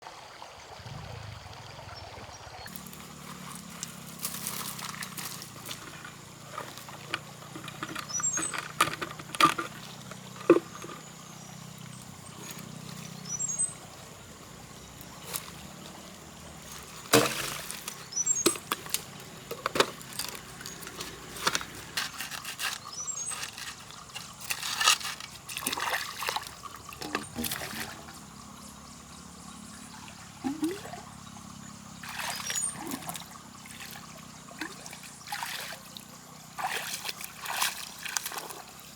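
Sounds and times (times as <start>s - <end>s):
muddy water splashing: 0.8s - 28.6s, 29.3s - 38.9s.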